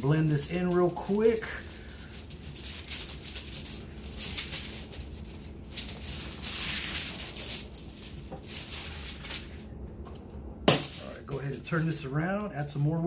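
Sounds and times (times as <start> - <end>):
aluminium foil crinkling: 0.0 - 9.7, 10.7 - 12.8.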